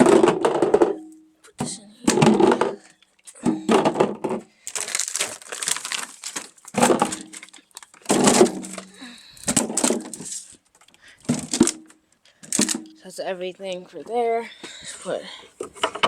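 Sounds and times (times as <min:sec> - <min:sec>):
drinks and ice packs shifting in cooler: 0:00.0 - 0:13.0.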